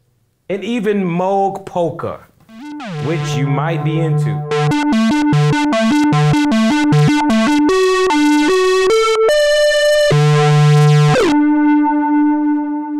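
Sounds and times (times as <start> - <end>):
synthesizer playing: 2.5 - 12.9.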